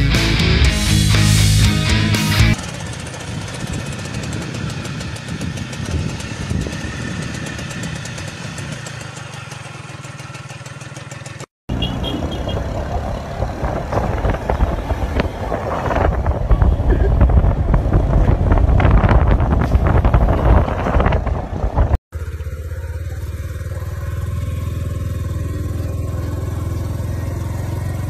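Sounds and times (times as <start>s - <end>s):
motorcycle engine running: 0.0s - 28.0s
vehicle and street noise: 0.0s - 28.0s.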